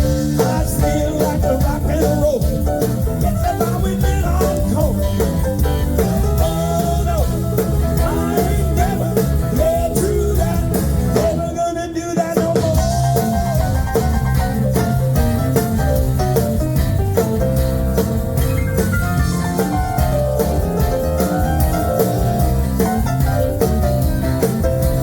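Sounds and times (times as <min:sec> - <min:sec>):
bass guitar: 0:00.0 - 0:25.0
blues band playing: 0:00.0 - 0:25.0
drum kit beat: 0:00.0 - 0:25.0.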